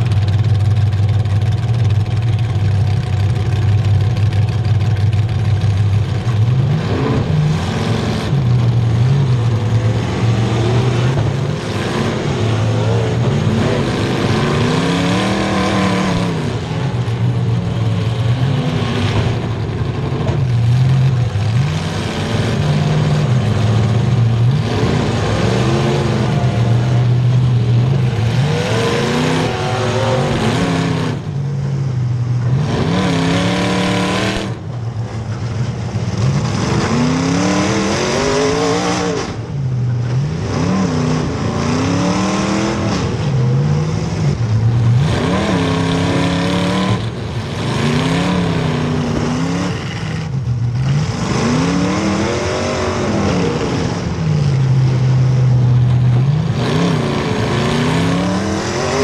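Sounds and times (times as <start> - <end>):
car engines revving hard: 0.0 - 59.0
engine and tyre noise: 0.0 - 59.0.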